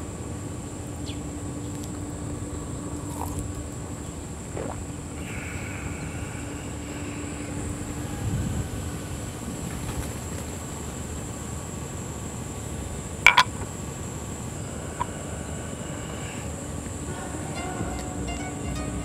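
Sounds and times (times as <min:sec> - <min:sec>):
faint constant hum: 0:00.0 - 0:19.0
low background rumble: 0:00.0 - 0:19.0
faint high hiss: 0:02.8 - 0:19.0.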